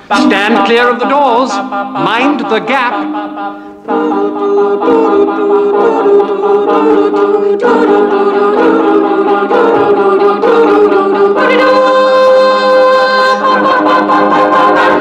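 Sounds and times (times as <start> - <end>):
voices singing in close harmony: 0.0 - 15.0.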